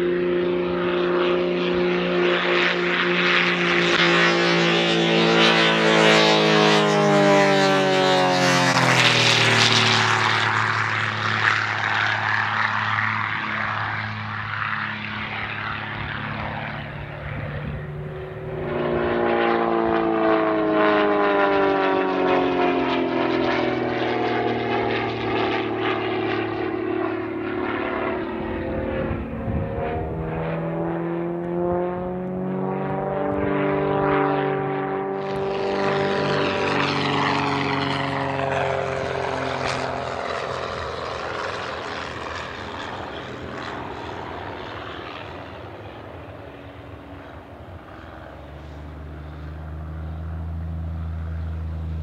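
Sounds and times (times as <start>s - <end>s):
propeller plane flying past: 0.0s - 52.0s.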